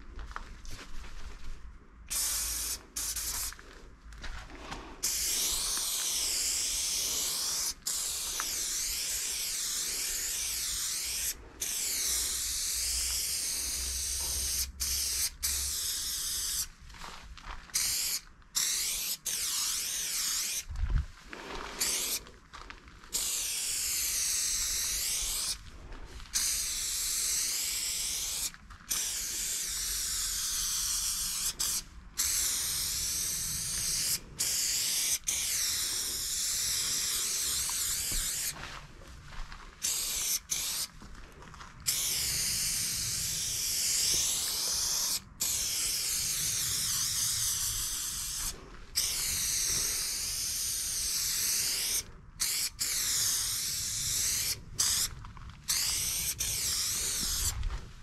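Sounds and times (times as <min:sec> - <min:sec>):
spray paint can hissing: 0:02.1 - 0:03.6, 0:05.0 - 0:16.7, 0:17.7 - 0:20.7, 0:21.4 - 0:22.2, 0:23.1 - 0:25.6, 0:26.3 - 0:38.6, 0:39.8 - 0:41.0, 0:41.8 - 0:57.6.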